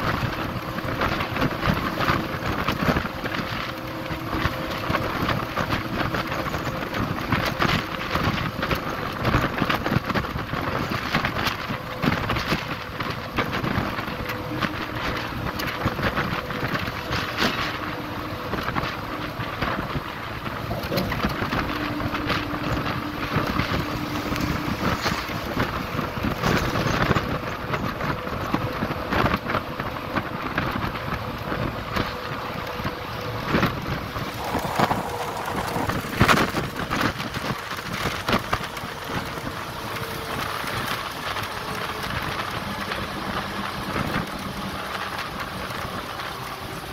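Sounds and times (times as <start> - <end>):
road noise: 0.0 - 46.9
wind buffeting microphone: 0.0 - 46.9
crackles: 0.1 - 46.9.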